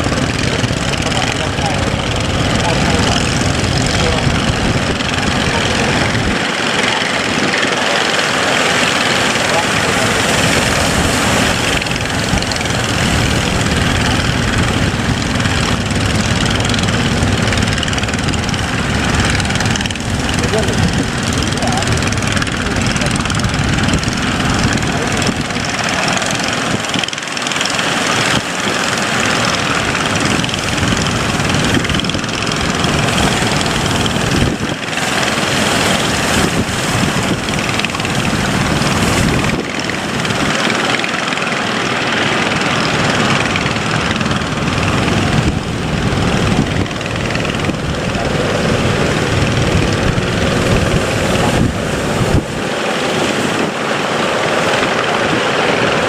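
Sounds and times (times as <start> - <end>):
boat engine running: 0.0 - 56.0
loud rushing noise: 0.0 - 56.0.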